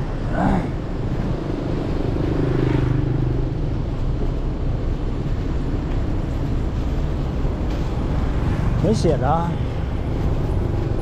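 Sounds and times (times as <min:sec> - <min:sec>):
diesel bus engine humming: 0:00.0 - 0:11.0.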